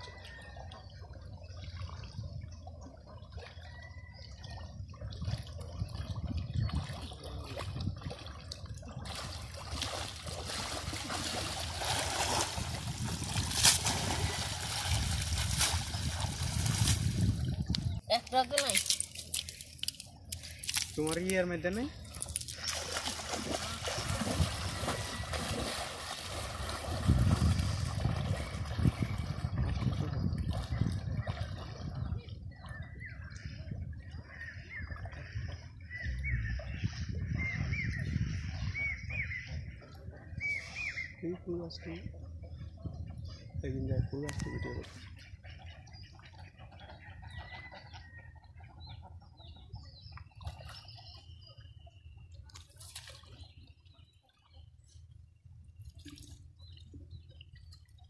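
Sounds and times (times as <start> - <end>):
river water sloshing and splashing: 0.0 - 37.8, 44.4 - 58.0.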